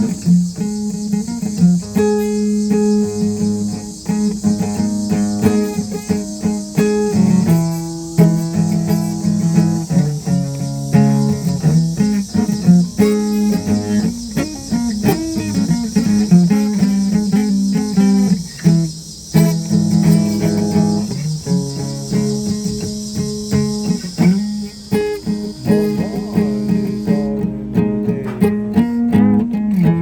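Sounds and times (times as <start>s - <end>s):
guitar plucked notes and chords: 0.0s - 30.0s
steady high hiss: 0.0s - 30.0s.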